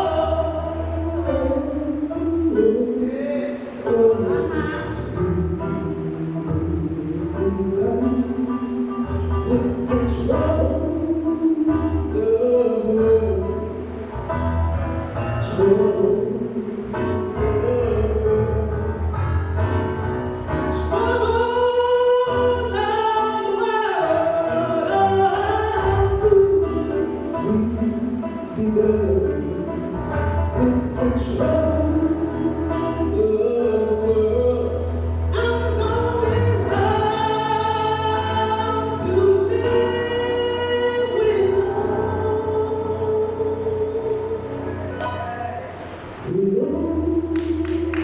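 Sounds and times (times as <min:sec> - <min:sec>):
low musical accompaniment: 0:00.0 - 0:48.0.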